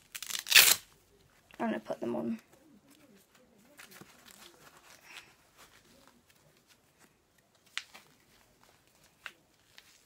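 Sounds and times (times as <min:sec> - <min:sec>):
gloves rustling: 0:00.0 - 0:10.0.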